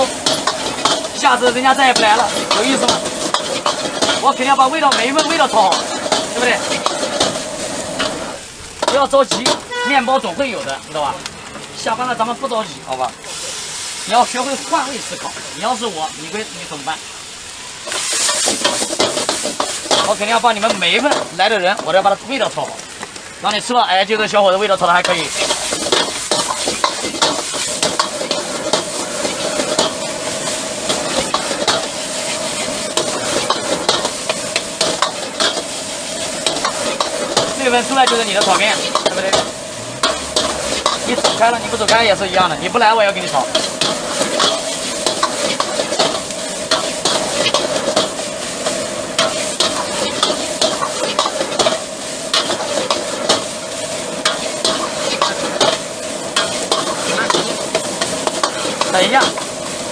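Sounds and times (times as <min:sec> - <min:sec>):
metal spatula scraping wok: 0:00.0 - 0:10.1, 0:17.8 - 0:21.9, 0:24.9 - 0:59.9
noodles sizzling in a wok: 0:00.0 - 0:59.9.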